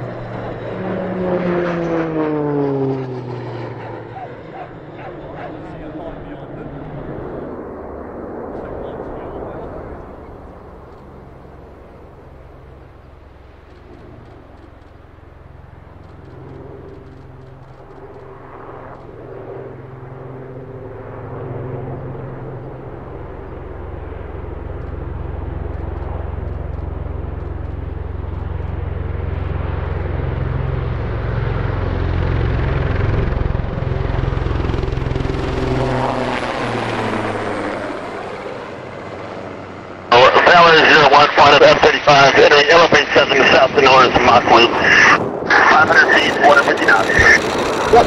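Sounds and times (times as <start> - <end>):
helicopter flying past: 0.0 - 48.0.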